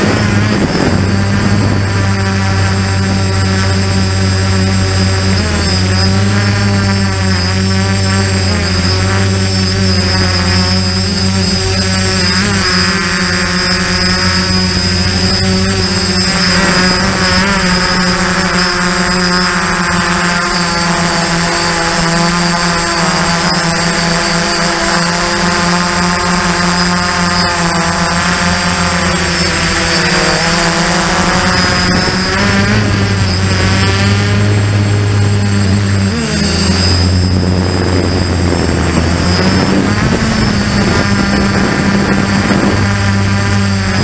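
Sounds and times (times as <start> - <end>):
drone motors buzzing: 0.0 - 44.0
thin high whine: 0.0 - 44.0.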